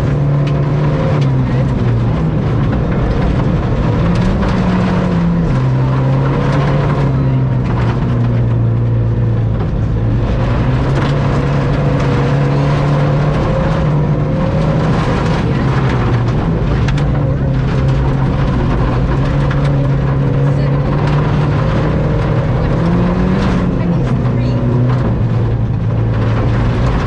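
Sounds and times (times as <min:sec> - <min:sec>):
rally car engine pulling hard: 0:00.0 - 0:27.0.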